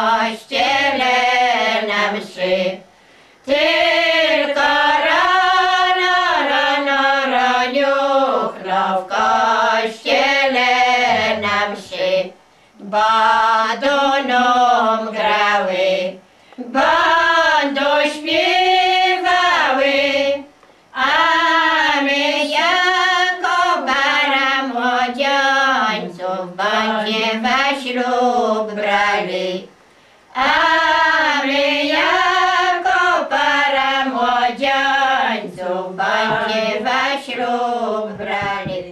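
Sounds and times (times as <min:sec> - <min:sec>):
women singing folk song: 0:00.0 - 0:38.9.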